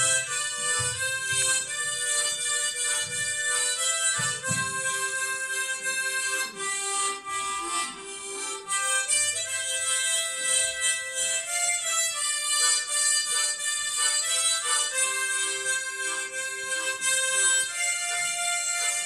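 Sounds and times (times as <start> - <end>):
harmonicas playing hymn tune: 0.0 - 19.0.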